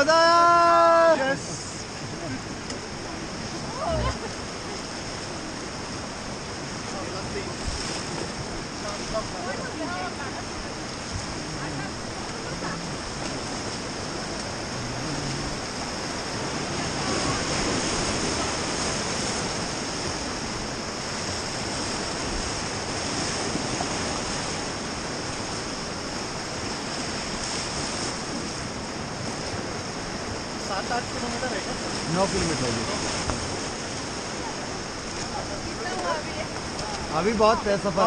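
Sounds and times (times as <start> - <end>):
rushing whitewater: 0.0 - 38.0.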